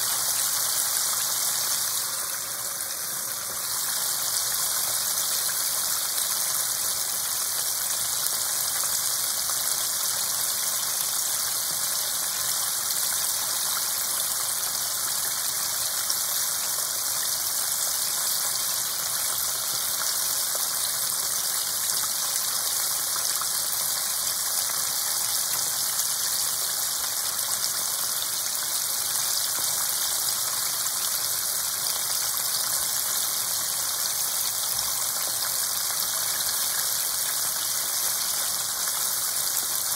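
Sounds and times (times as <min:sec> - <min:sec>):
oil sizzling and crackling: 0:00.0 - 0:39.9.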